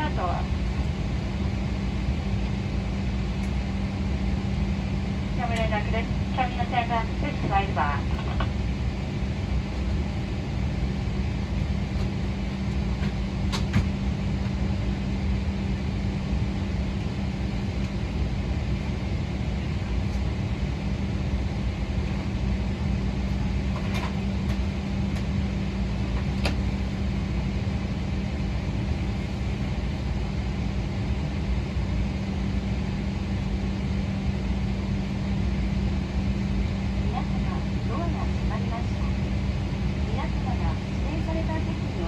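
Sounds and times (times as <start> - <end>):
air conditioning hum: 0.0 - 42.0.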